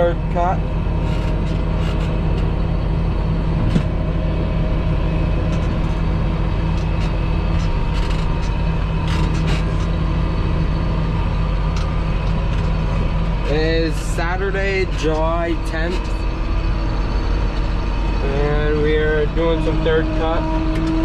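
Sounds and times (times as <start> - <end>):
tractor engine hum: 0.0 - 21.0.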